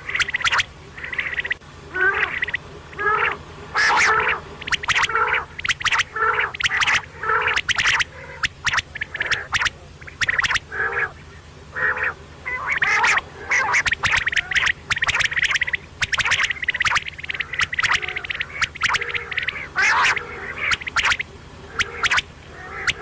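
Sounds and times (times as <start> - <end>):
quail calling: 0.0 - 23.0
steady low hum: 0.0 - 23.0.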